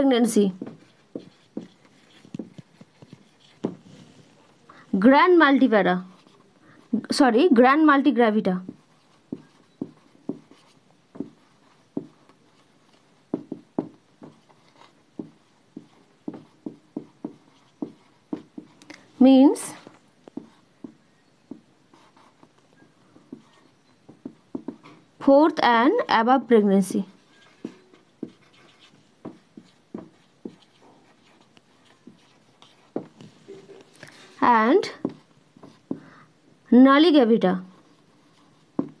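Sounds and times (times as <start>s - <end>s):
marker writing on whiteboard: 0.0s - 36.2s, 36.8s - 39.0s.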